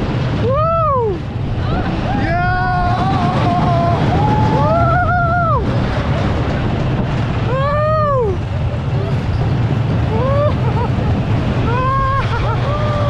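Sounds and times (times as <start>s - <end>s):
roller coaster riders screaming: 0.0s - 13.0s
wind rush on microphone: 0.0s - 13.0s.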